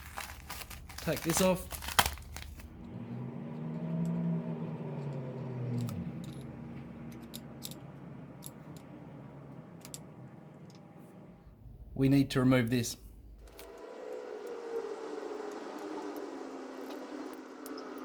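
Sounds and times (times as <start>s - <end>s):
electric motor humming: 1.7s - 11.9s, 13.1s - 18.0s.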